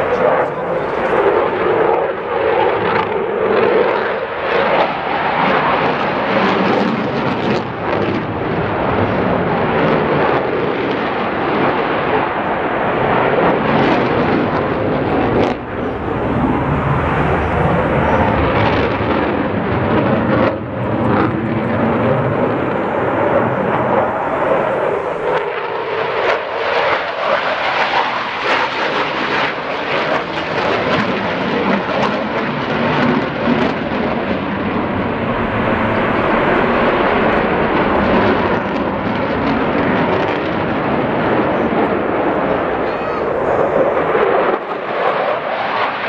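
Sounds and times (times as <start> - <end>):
jet aircraft roaring: 0.0 - 46.0.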